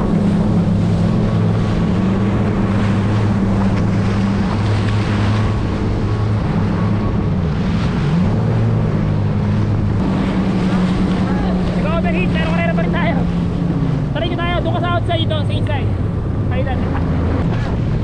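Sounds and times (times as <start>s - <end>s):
jet ski engine: 0.0s - 18.0s
water rushing: 0.0s - 18.0s
wind buffeting microphone: 0.0s - 18.0s.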